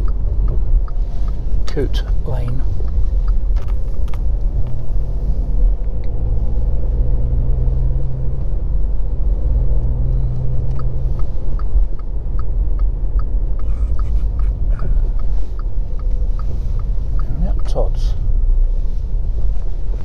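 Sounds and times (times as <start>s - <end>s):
engine and road rumble: 0.0s - 20.0s
turn signal ticking: 0.0s - 20.0s.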